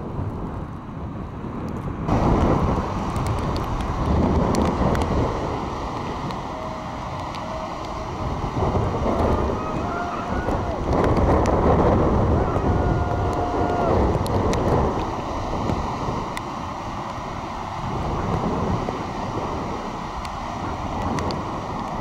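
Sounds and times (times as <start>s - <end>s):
wind buffeting microphone: 0.0s - 22.0s
breaking surf: 2.0s - 22.0s.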